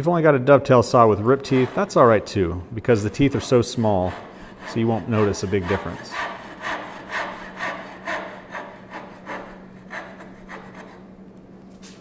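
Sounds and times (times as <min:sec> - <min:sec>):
hand saw sawing wood: 0:00.9 - 0:11.1.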